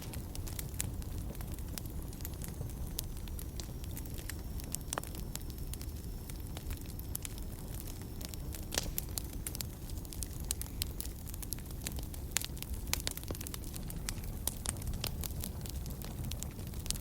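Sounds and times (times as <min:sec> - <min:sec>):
fire flame rumble: 0:00.0 - 0:17.0
wood fire crackling and popping: 0:00.0 - 0:17.0.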